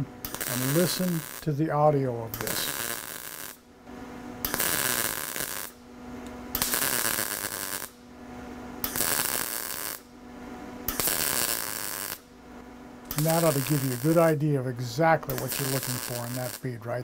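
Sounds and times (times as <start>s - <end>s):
welder arc crackling and sizzling: 0.0s - 8.0s, 8.7s - 10.2s, 10.8s - 17.0s
low steady hum: 0.0s - 17.0s.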